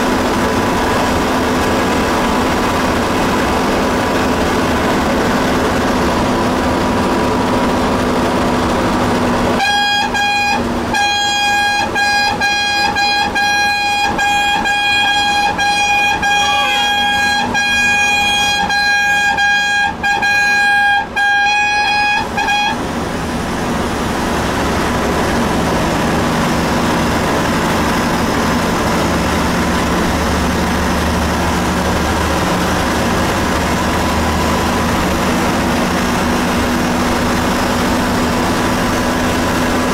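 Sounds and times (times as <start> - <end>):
bus engine running: 0.0 - 39.9
bus horn honking: 0.0 - 39.9
tyre noise on highway: 0.0 - 39.9.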